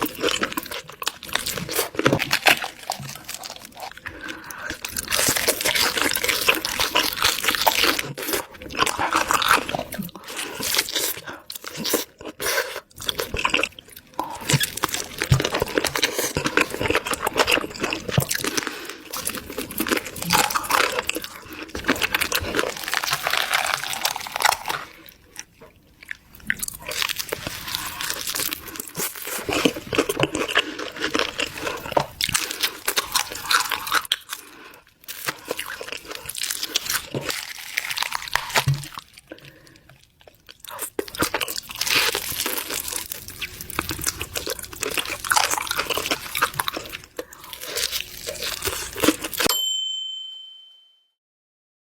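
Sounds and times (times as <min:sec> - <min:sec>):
crunching and chewing crispy chicken: 0:00.0 - 0:49.5.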